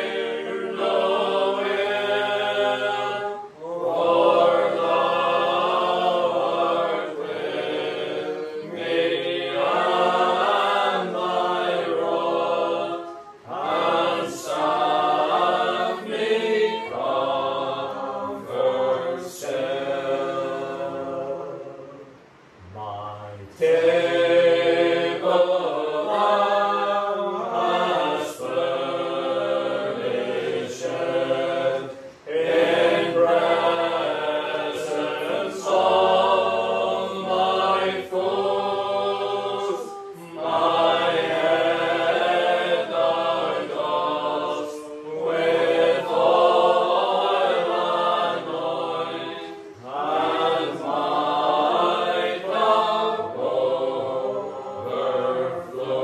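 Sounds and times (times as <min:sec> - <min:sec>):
choir singing a hymn in harmony: 0:00.0 - 0:56.0.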